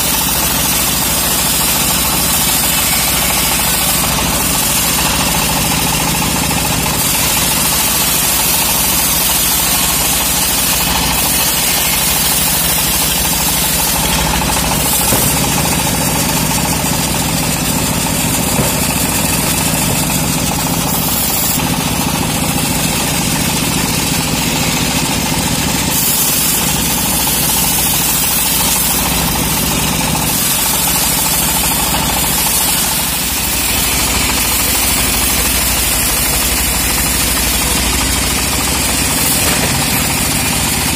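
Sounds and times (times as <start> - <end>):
bandsaw sawmill drone: 0.0 - 40.9
blade hissing through log: 0.0 - 40.9.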